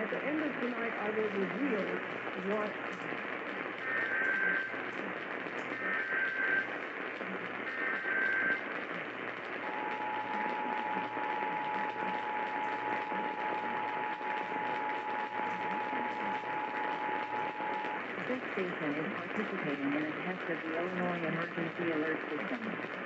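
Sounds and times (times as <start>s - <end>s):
radio hiss: 0.0s - 23.0s.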